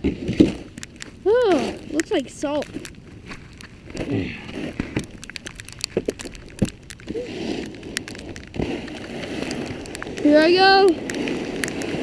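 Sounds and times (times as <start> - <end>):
icy sleet crunching and clicking: 0.0 - 12.0.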